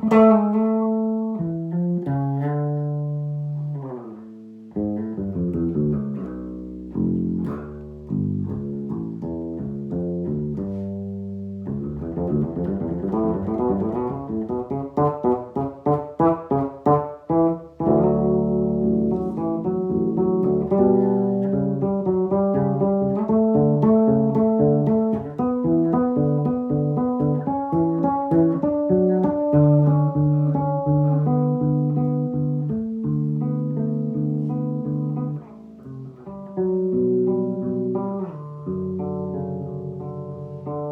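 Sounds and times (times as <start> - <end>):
bass guitar playing jazz: 0.0 - 40.9.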